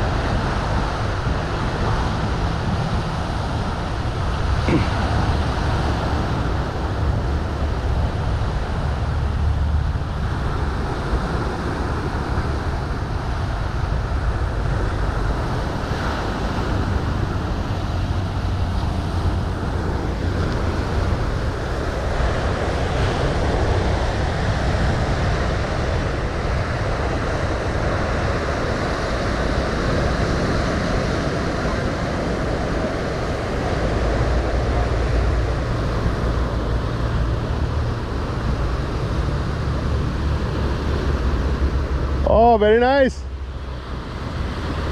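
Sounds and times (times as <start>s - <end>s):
surf washing onto rocky shore: 0.0s - 44.9s
wind rumbling on microphone: 0.0s - 44.9s.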